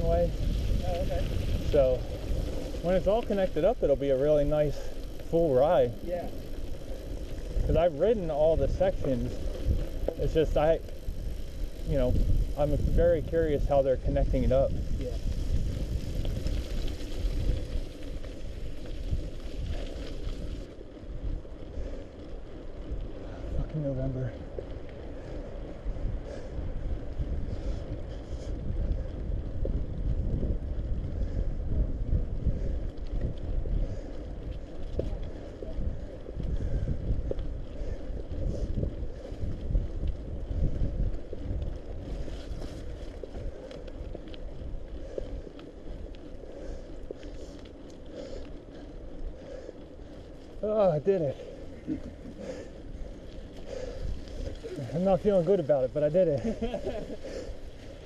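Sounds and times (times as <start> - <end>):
bike clicks and rattles: 0.0 - 58.0
bike tyres on wet gravel: 0.0 - 58.0
wind buffeting microphone: 0.0 - 58.0.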